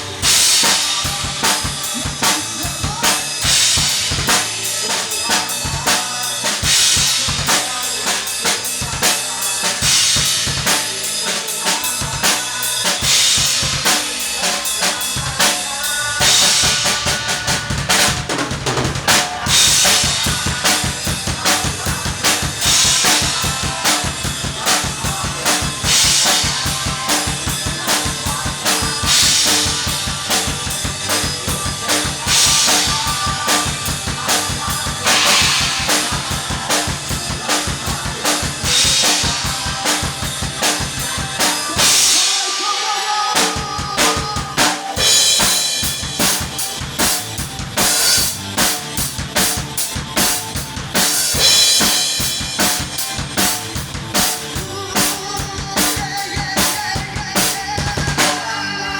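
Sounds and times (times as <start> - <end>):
drum kit beat: 0.0 - 58.9
rock band playing: 0.0 - 58.9.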